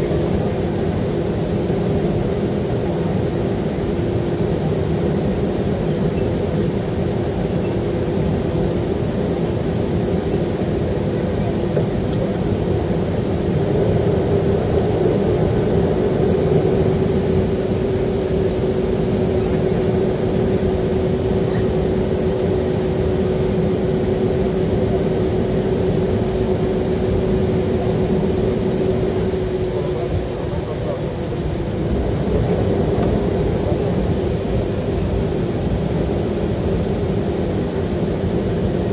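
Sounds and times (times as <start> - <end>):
jet engines humming: 0.0 - 38.9.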